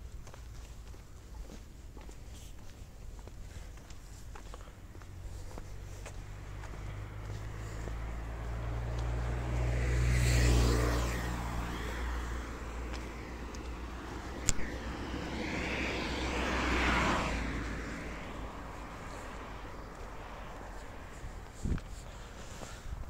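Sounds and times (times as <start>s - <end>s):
cars passing: 3.1s - 23.0s.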